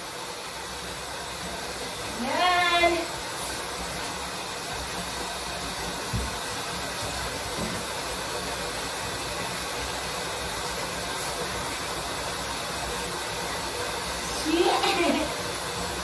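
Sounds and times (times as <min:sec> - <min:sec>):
water running in bathtub: 0:00.0 - 0:16.0.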